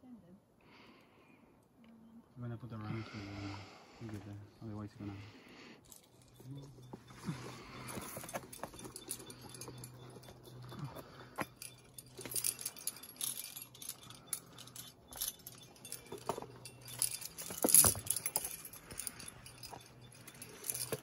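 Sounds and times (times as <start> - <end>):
carabiners clinking and jangling: 3.2 - 21.0.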